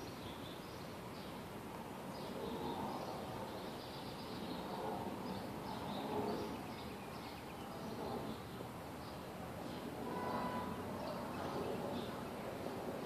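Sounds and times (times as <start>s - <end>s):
small birds chirping: 0.0s - 13.0s
steady background noise: 0.0s - 13.0s.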